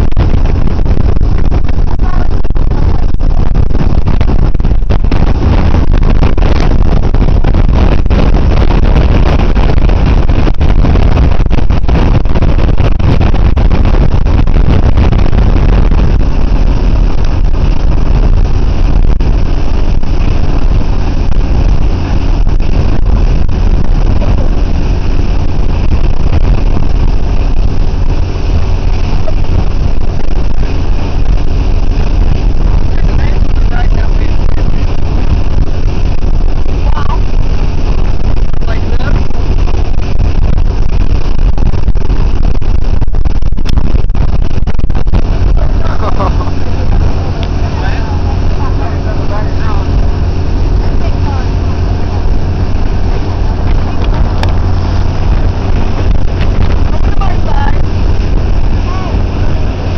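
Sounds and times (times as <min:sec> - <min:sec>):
motorboat engine: 0:00.0 - 0:59.9
rushing boat wake: 0:00.0 - 0:59.9.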